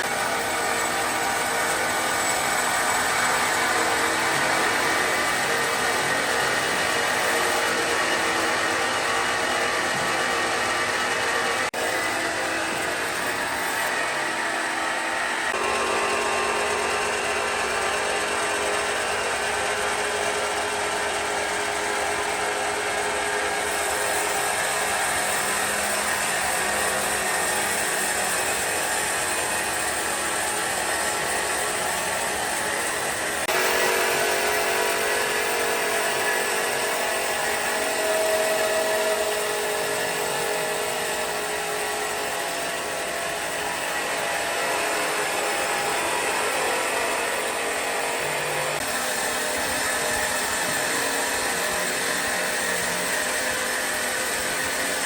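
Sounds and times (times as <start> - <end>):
woodworking power tools running: 0.0 - 55.0.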